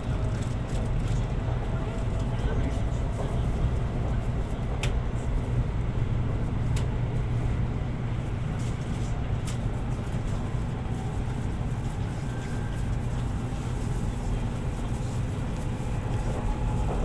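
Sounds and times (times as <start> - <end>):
high speed train rumble: 0.0 - 17.0.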